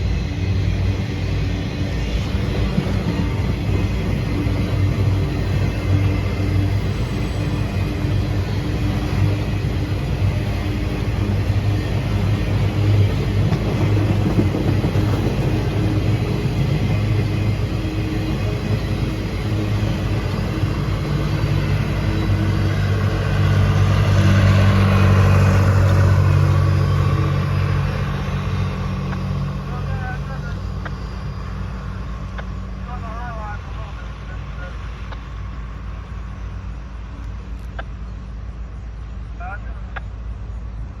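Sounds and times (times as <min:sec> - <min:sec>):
diesel locomotive engine rumble: 0:00.0 - 0:41.0.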